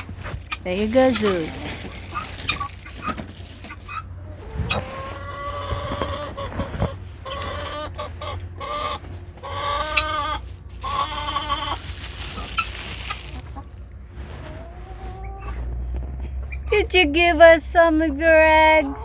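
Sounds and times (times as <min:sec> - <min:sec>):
chickens clucking: 0:00.0 - 0:16.7.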